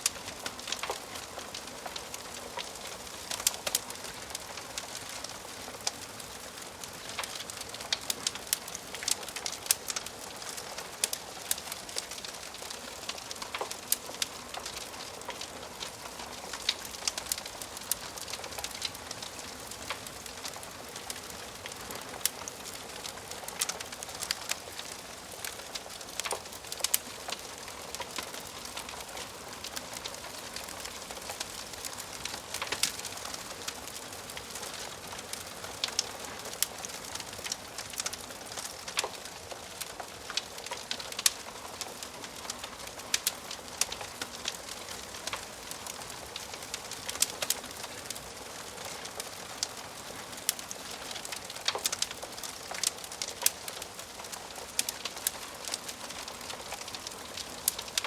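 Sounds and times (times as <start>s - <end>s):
soft steady hiss: 0.0s - 58.0s
wood fire crackling: 0.0s - 58.0s.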